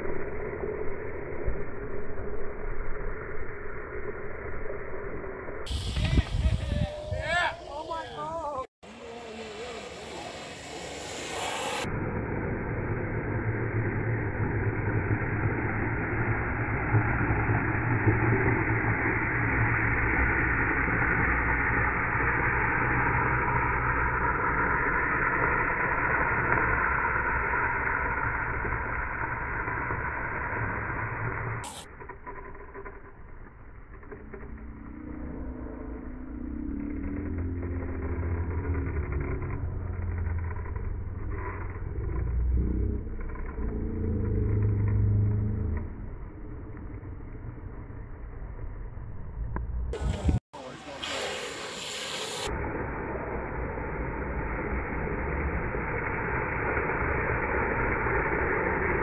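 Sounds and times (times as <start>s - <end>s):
longboard wheels on asphalt: 0.0s - 59.0s
quiet rumbling: 0.0s - 59.0s.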